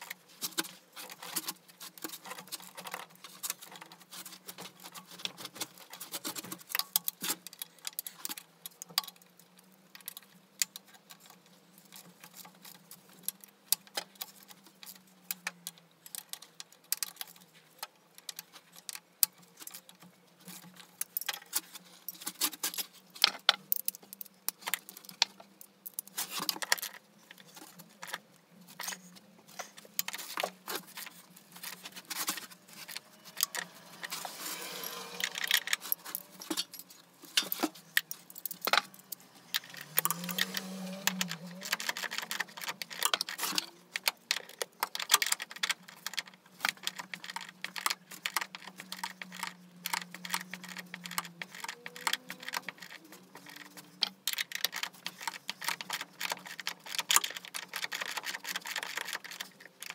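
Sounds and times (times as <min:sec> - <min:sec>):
small hard objects clicking: 0:00.0 - 0:59.9.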